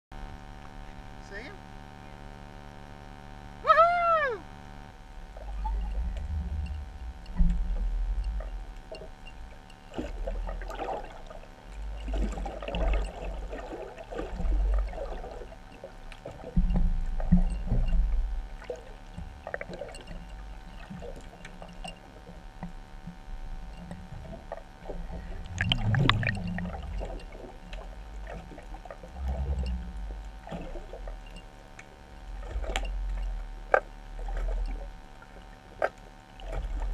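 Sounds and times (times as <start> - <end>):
steady hum: 0.1 - 36.9
underwater rumbling and sloshing: 4.7 - 36.9.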